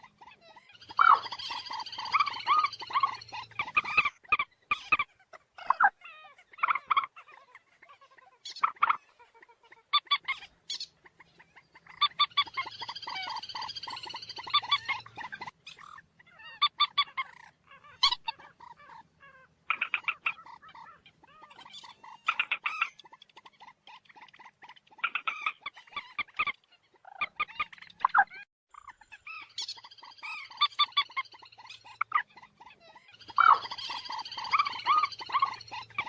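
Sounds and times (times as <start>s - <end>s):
moorhen calling: 0.0s - 36.0s.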